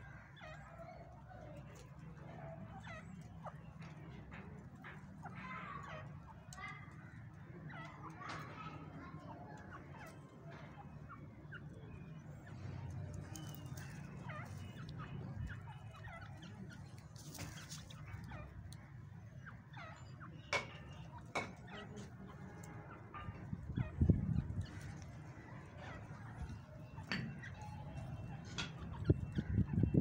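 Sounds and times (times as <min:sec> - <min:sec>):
birds chirping: 0:00.0 - 0:30.0
poultry calling: 0:00.0 - 0:30.0.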